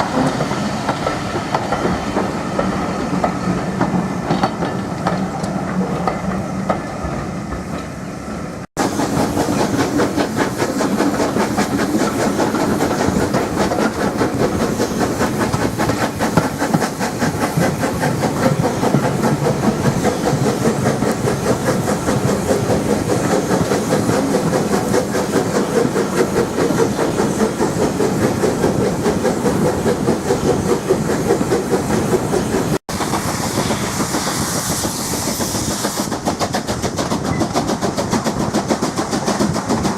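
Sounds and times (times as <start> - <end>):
train hiss: 0.0 - 39.9
train wheels clattering on rails: 0.0 - 39.9.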